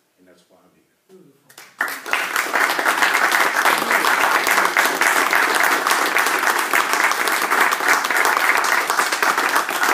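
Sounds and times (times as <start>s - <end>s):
audience applauding: 1.5s - 9.9s.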